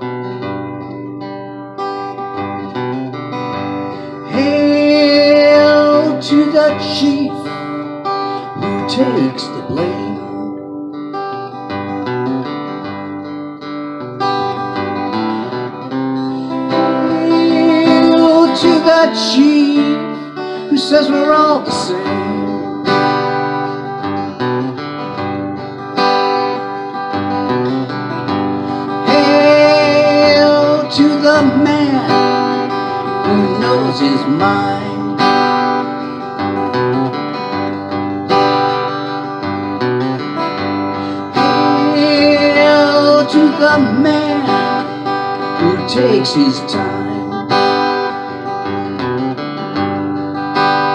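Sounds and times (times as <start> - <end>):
acoustic guitar strummed: 0.0 - 50.9.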